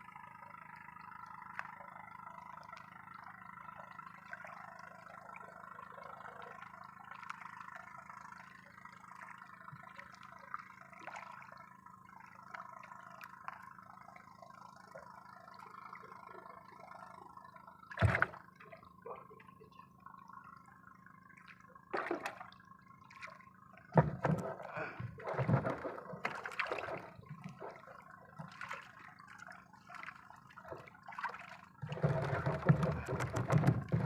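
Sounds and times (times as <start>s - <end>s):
steady low hum: 0.0s - 34.0s
water dripping and sloshing: 2.6s - 19.5s, 21.2s - 34.0s.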